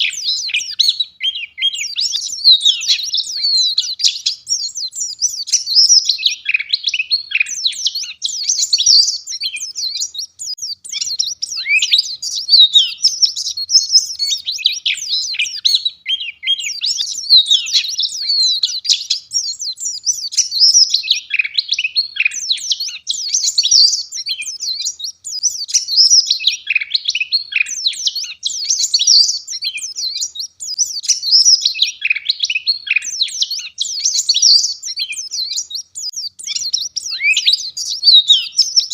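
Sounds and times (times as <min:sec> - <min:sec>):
bird singing rapid high twittering: 0:00.0 - 0:38.9.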